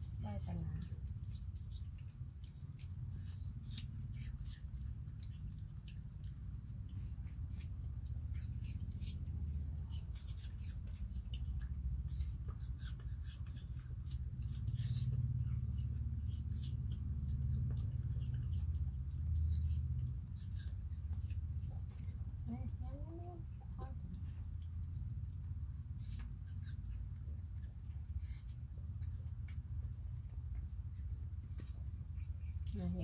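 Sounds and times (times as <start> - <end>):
low hum: 0.0 - 33.0
monkeys chewing crisp fruit: 0.0 - 33.0.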